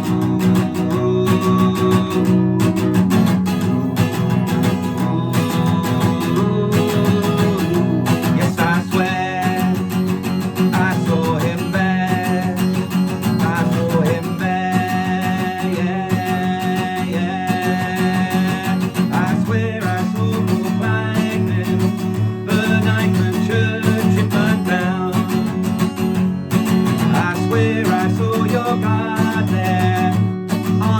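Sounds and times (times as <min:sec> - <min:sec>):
strummed guitar chords: 0:00.0 - 0:30.9.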